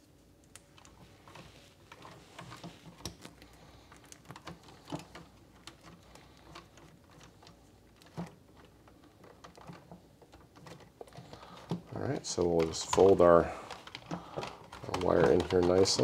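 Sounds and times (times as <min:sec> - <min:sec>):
wires clicking and rustling: 0:00.0 - 0:16.0.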